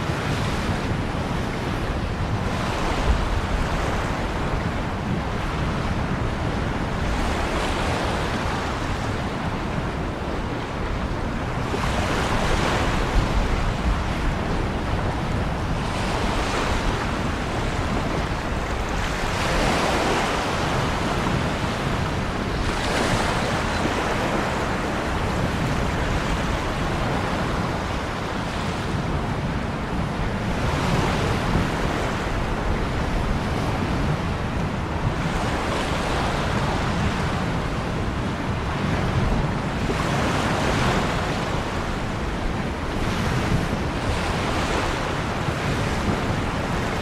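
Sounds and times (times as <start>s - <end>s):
waves breaking: 0.0s - 47.0s.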